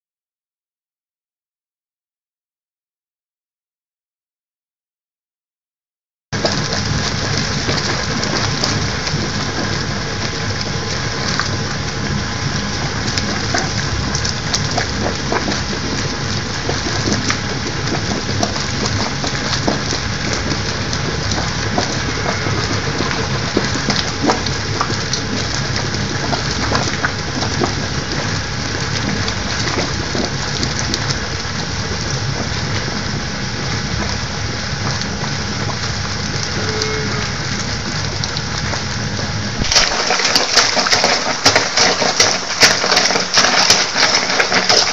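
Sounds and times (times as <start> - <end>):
water sputtering and bubbling: 6.4 - 44.9.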